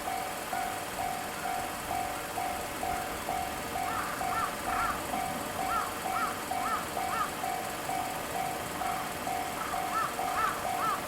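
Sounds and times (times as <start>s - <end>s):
crossing warning bell: 0.0s - 11.0s.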